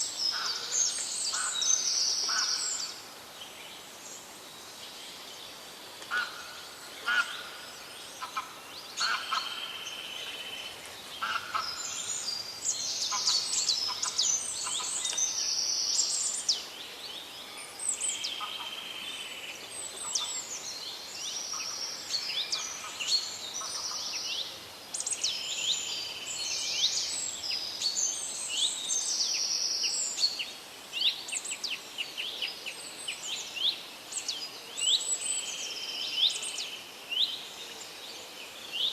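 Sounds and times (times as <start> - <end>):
birds singing: 0.0 - 38.9
faint outdoor hiss: 0.0 - 38.9.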